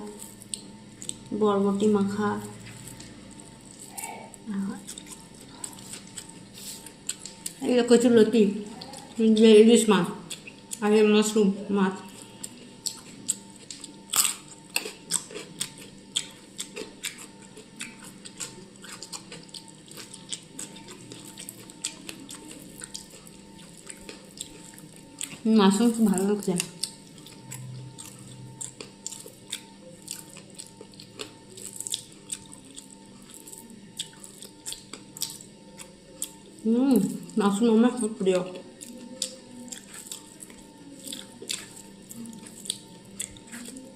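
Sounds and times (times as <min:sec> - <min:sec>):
person chewing wet food: 0:00.0 - 0:08.0, 0:08.6 - 0:11.4, 0:12.0 - 0:43.9.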